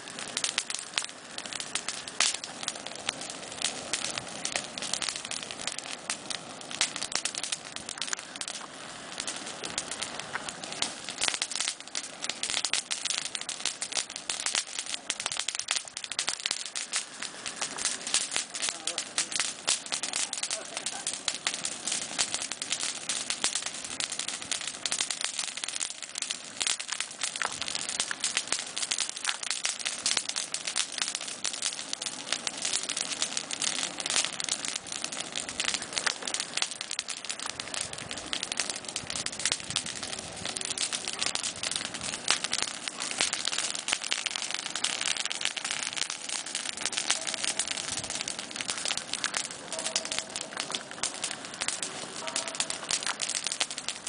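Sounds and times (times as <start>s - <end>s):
bonfire crackling: 0.0s - 54.0s.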